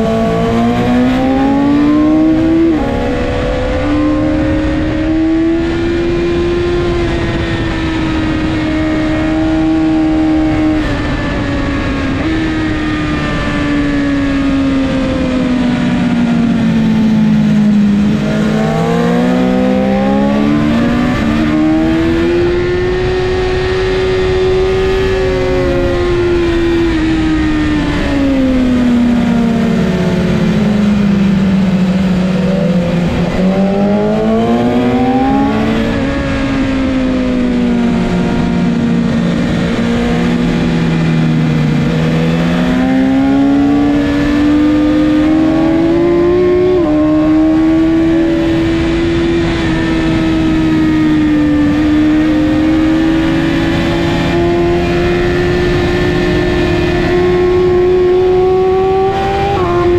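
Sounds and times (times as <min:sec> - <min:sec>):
motorcycle engine at high revs: 0:00.0 - 0:59.9
wind rush: 0:00.0 - 0:59.9.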